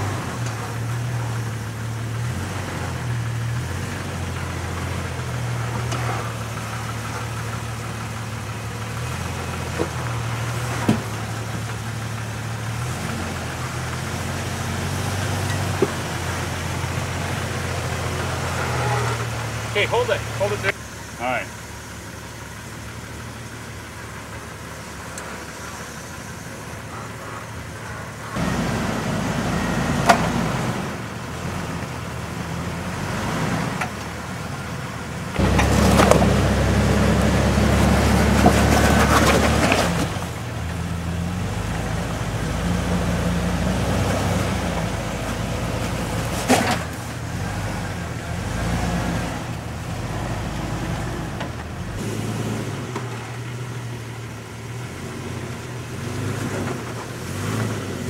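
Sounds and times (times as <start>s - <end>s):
engines running at low speed: 0.0s - 58.0s.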